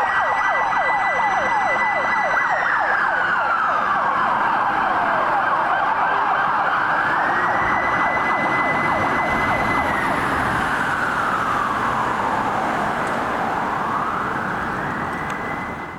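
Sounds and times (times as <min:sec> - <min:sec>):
fast sweeping siren tones: 0:00.0 - 0:15.9
fire truck siren wailing: 0:00.0 - 0:15.9.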